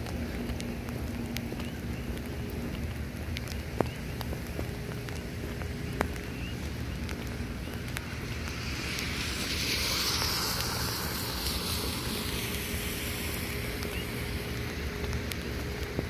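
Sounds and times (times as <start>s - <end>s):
steady rain hissing: 0.0s - 16.0s.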